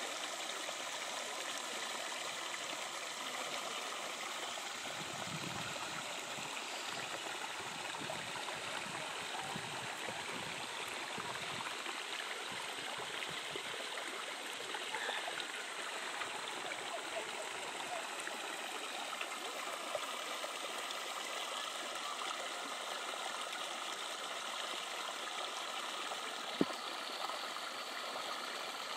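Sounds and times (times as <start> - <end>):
creek flowing over rocks: 0.0 - 28.9.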